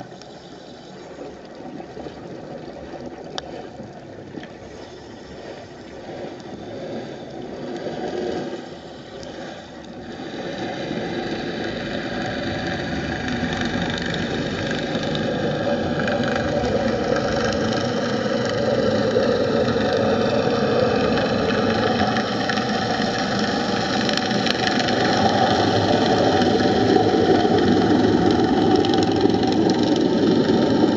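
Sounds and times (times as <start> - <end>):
engine drone underwater: 0.0 - 30.9.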